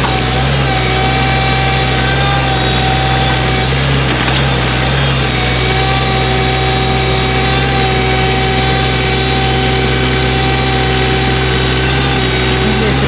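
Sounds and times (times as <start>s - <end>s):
diesel engine running: 0.0s - 13.0s
high engine whine: 0.0s - 13.0s.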